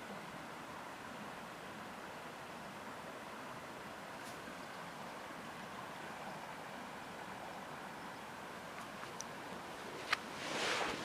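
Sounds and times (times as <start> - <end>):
flowing water murmuring: 0.0 - 11.0.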